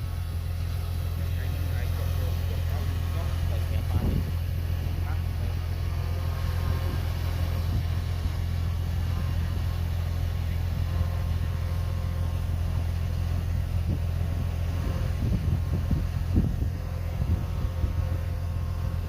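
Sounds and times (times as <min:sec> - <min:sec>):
diesel engine of heavy machinery: 0:00.0 - 0:19.0.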